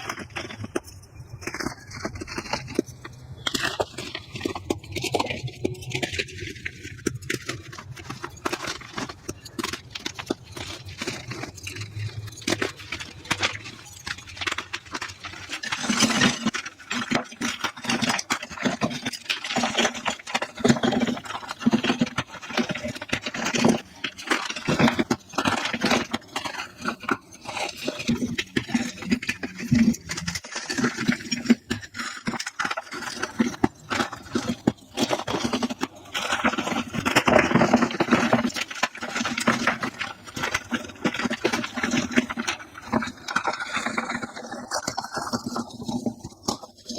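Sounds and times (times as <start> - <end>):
chalk blocks crunching: 0.0 - 46.9.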